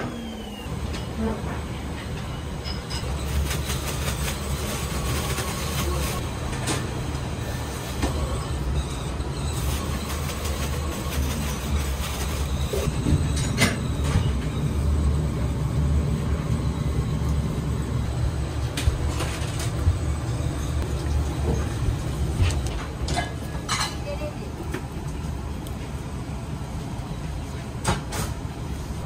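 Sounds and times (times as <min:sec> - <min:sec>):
low rumble of kitchen machinery: 0:00.0 - 0:29.0.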